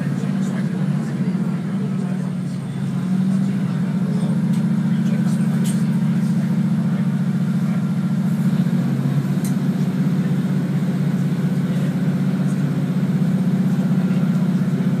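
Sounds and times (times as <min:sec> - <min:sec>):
train engine low hum: 0:00.0 - 0:15.0.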